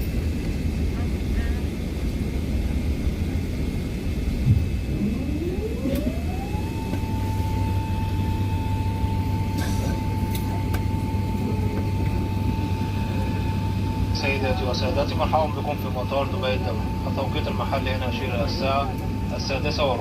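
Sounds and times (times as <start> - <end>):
aircraft cabin rumble: 0.0 - 20.0
rising whine: 3.7 - 20.0.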